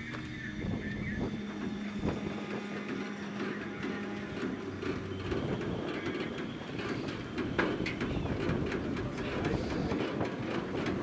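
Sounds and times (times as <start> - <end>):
freight train rolling on track: 0.0 - 11.0
train cars clanking and rattling: 1.4 - 11.0.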